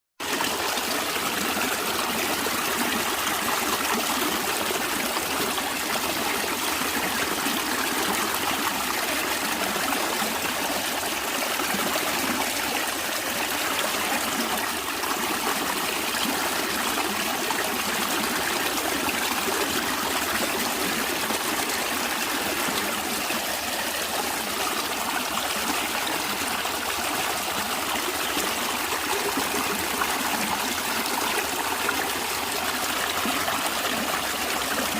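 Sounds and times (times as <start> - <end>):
stream flowing: 0.2 - 34.9.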